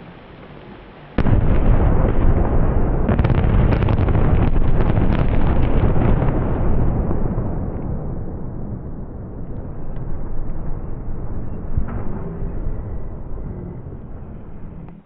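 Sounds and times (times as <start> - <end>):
demolition blast rumble: 1.2 - 15.0.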